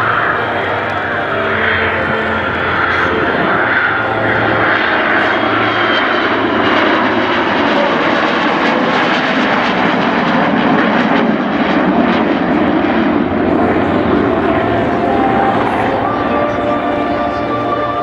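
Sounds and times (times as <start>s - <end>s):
aircraft flypast engine rush: 0.0s - 18.0s.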